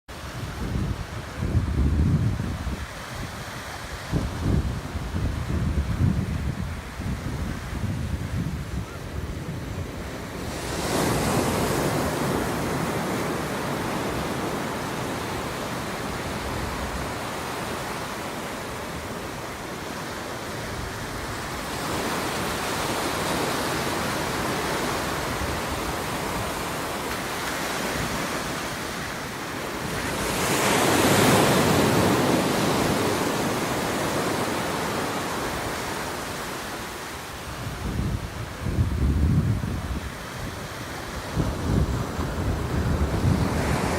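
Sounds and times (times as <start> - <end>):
ocean waves breaking: 0.1 - 43.9.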